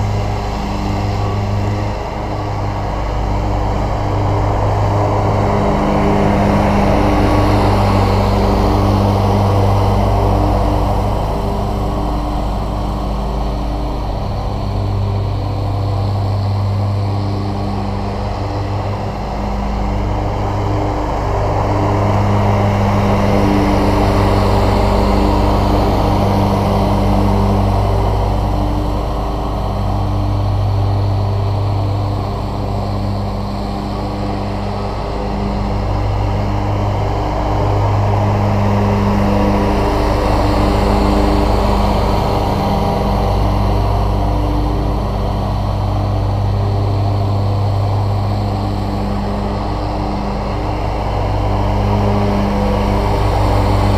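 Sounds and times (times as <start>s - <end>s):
riding mower engine hum: 0.0s - 53.9s.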